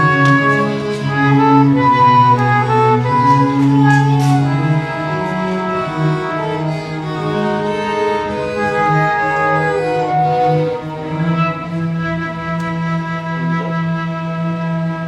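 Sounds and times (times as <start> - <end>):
baroque string chamber music: 0.0 - 15.0.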